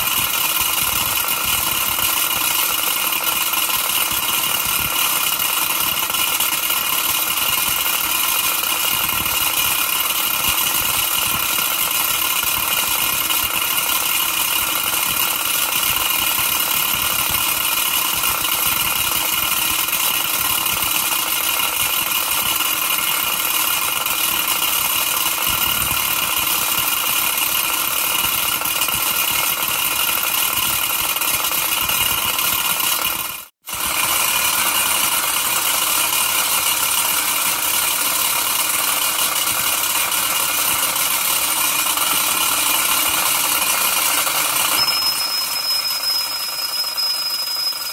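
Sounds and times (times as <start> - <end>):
mechanical clatter of workshop model: 0.0 - 47.9
toy steam engine hissing: 0.0 - 47.9.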